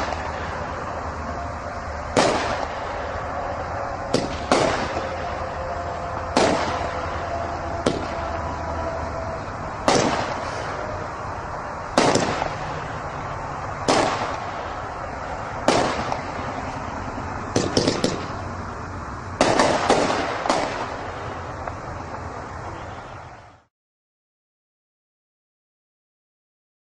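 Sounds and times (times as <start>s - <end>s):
fireworks firing: 0.0s - 23.4s.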